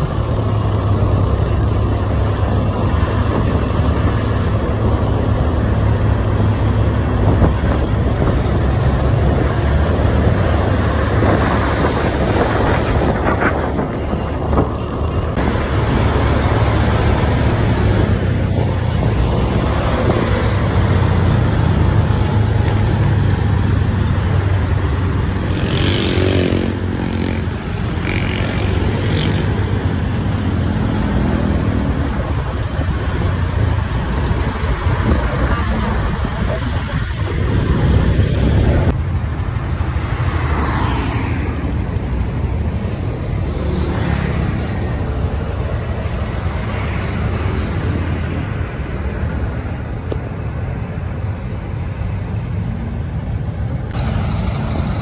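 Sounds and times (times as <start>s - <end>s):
bus diesel engine rumbling: 0.0s - 40.3s, 41.4s - 55.0s
motorcycles passing: 0.0s - 55.0s
street traffic: 0.0s - 55.0s.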